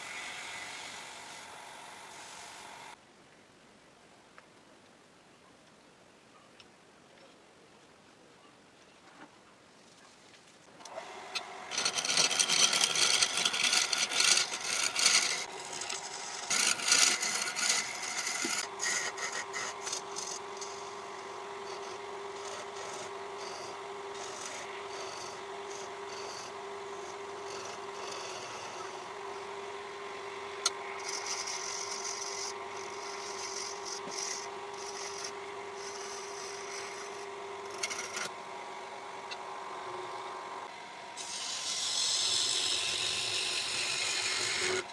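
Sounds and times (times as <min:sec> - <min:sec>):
tool cutting spinning wood: 0:00.0 - 0:03.0, 0:10.9 - 0:44.9
wood lathe humming: 0:00.0 - 0:03.0, 0:10.9 - 0:44.9.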